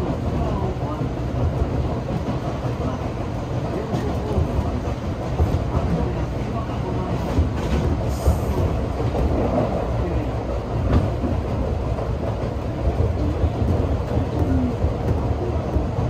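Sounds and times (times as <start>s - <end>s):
rail joint clicks: 0.0s - 16.0s
train wheels rumbling on rail: 0.0s - 16.0s.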